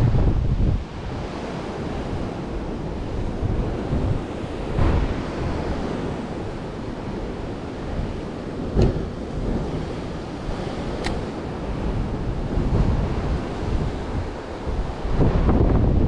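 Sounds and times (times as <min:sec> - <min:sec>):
ocean surf breaking: 0:00.0 - 0:16.0
wind rushing over microphone: 0:00.0 - 0:16.0.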